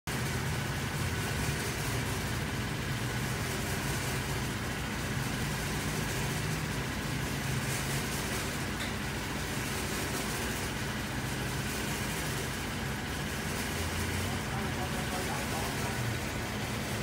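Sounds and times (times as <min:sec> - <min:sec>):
low mechanical hum: 0:00.1 - 0:17.0.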